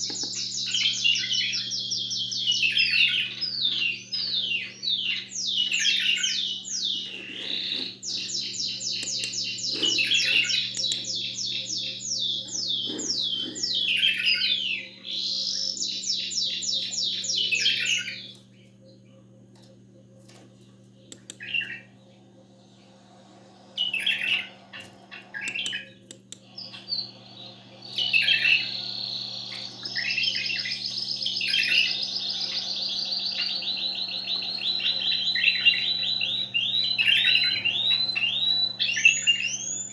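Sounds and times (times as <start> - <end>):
songbirds trilling: 0.0 - 19.2, 21.0 - 39.9
faint low hum: 0.0 - 39.9.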